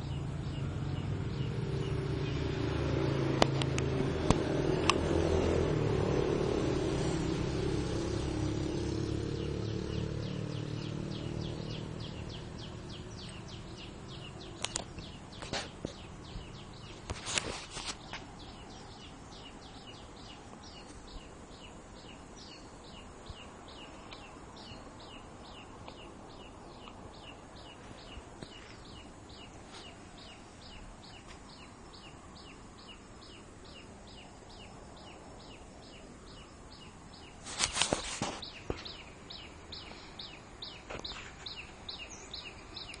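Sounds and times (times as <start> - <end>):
bird chirping: 0.0 - 43.0
outdoor background noise: 0.0 - 43.0.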